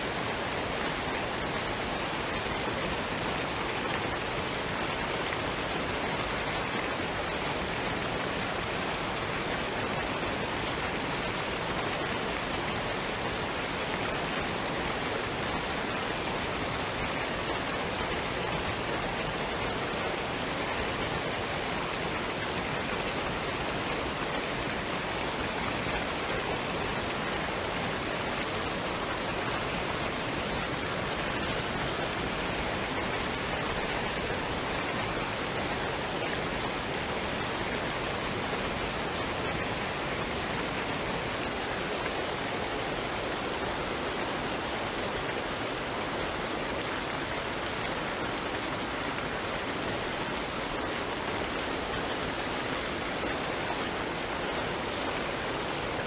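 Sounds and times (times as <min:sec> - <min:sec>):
rush of running water: 0:00.0 - 0:56.0.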